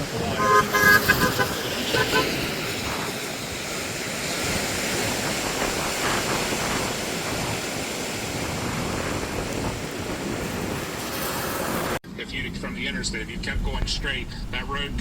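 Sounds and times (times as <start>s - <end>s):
strong wind with rain: 0.0s - 15.0s.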